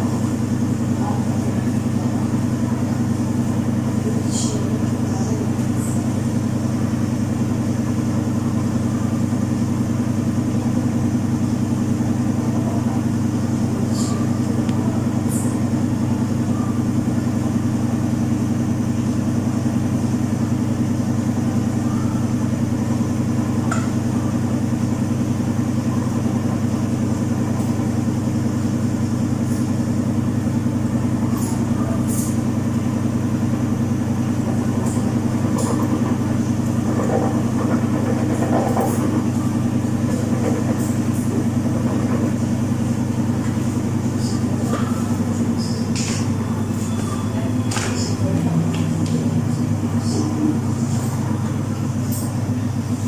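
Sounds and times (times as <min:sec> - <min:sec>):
washing machine motor hum: 0:00.0 - 0:53.0.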